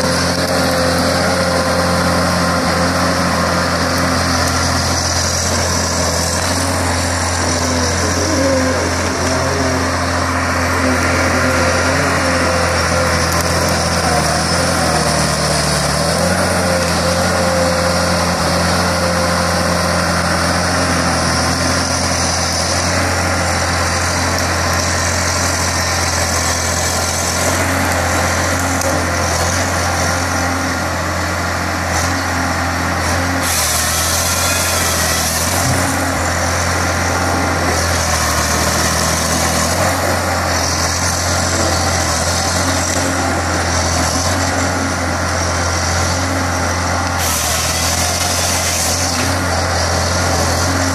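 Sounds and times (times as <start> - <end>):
diesel engine under load: 0.0 - 50.9
hydraulic whine: 0.0 - 50.9.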